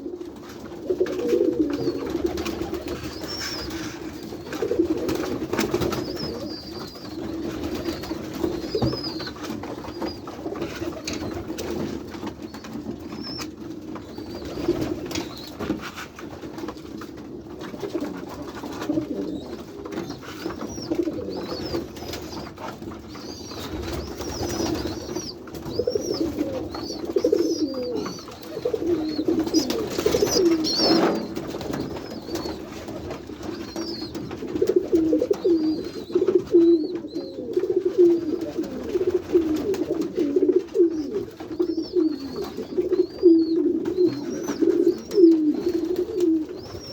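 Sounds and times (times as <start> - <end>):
pigeons cooing: 0.0 - 16.1, 17.6 - 46.9
rustling: 0.8 - 46.9.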